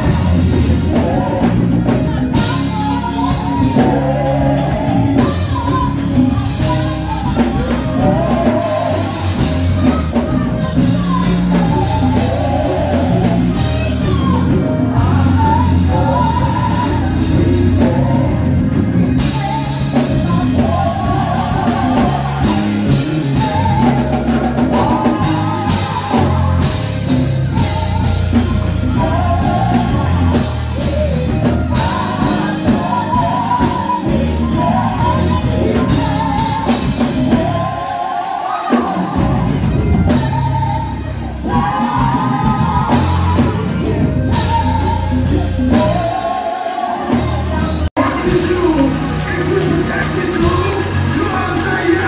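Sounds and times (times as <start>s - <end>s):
band with drums and bass: 0.0s - 52.0s
gospel singing: 0.0s - 52.0s.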